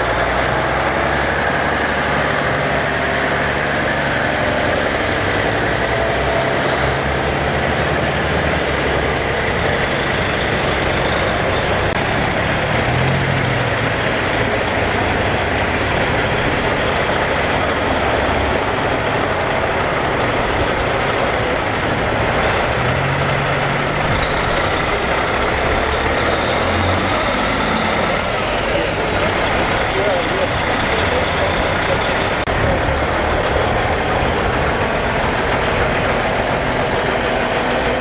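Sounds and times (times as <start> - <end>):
diesel trucks driving past: 0.0 - 38.0.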